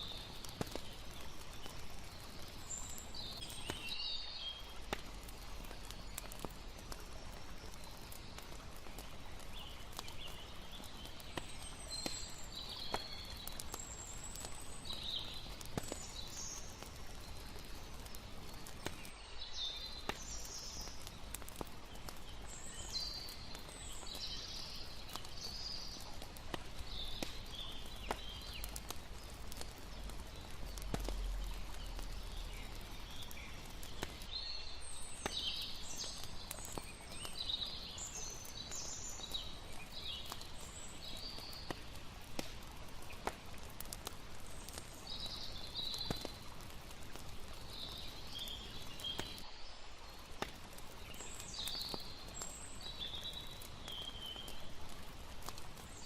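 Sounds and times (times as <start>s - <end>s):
campfire crackling and popping: 0.0s - 56.0s
running water hiss: 0.0s - 56.0s.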